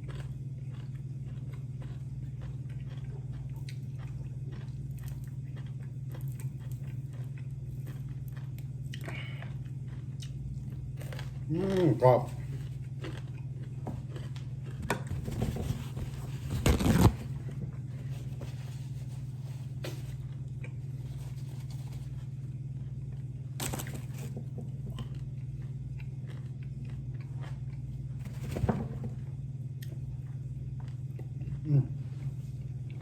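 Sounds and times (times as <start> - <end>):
crunchy food chewing: 0.0 - 28.3, 29.3 - 33.0
steady low hum: 0.0 - 33.0.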